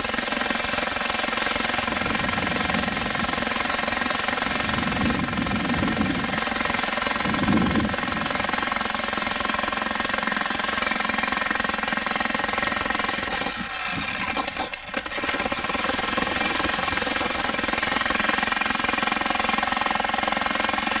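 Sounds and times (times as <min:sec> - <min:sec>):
jackhammer hammering into rock: 0:00.0 - 0:21.0.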